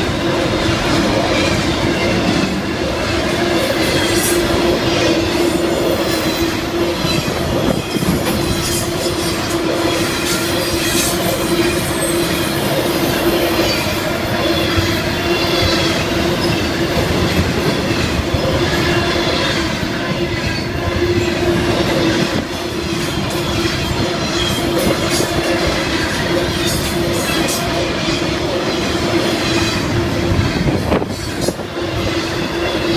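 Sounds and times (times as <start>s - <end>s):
freight train cars clattering: 0.0s - 32.9s.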